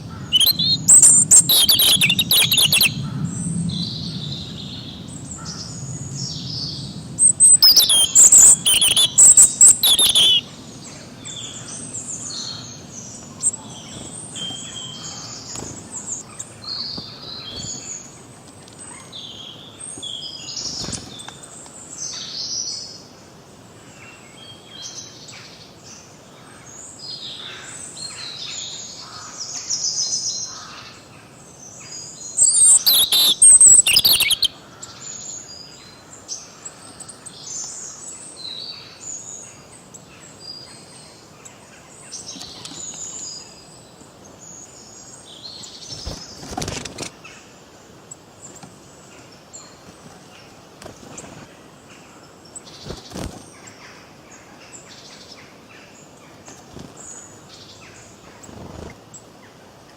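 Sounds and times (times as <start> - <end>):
forest songbirds singing: 0.0 - 59.9.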